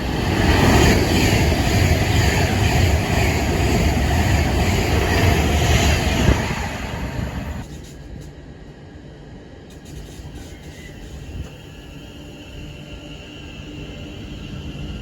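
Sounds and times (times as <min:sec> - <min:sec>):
train passing with rumble: 0:00.0 - 0:15.0.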